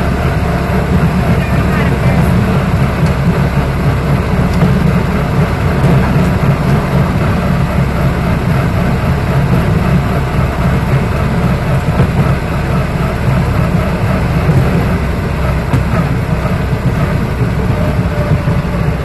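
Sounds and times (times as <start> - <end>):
rail vehicle engine drone: 0.0 - 19.0.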